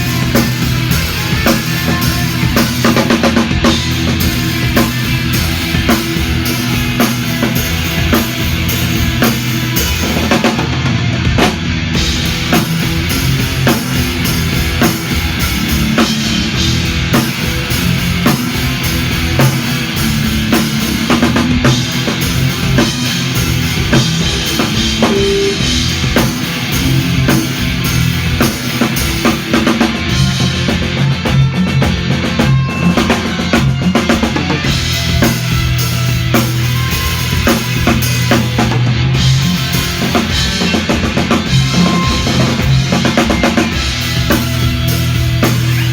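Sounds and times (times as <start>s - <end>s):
punk rock band playing: 0.0s - 45.9s.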